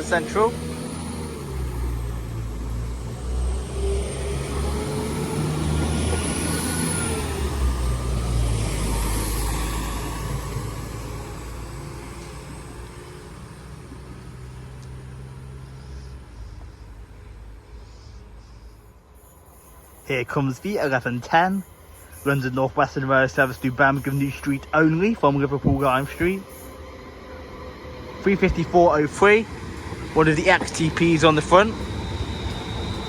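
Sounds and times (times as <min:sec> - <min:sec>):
train diesel engines working hard: 0:00.0 - 0:33.0.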